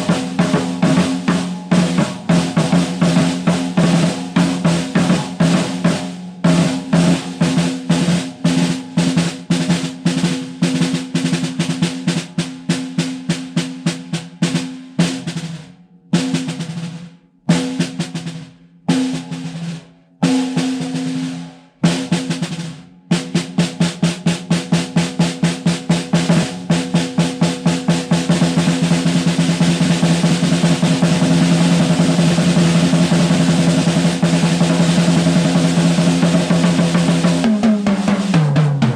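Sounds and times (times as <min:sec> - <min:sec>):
snare drum hits and roll: 0:00.0 - 0:38.9.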